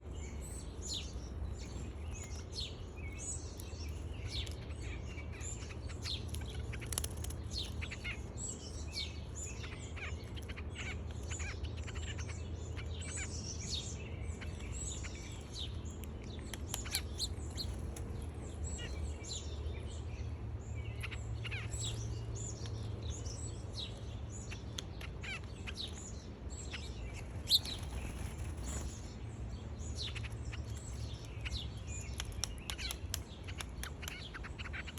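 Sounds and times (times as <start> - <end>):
songbirds chirping and twittering: 0.0 - 34.9.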